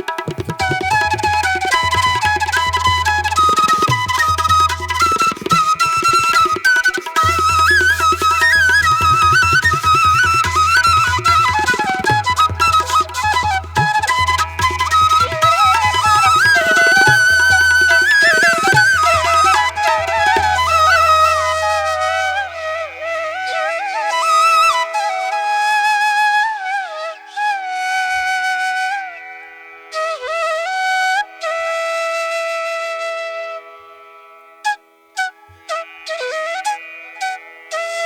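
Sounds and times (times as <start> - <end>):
solo flute melody: 0.0 - 34.0, 34.6 - 38.0.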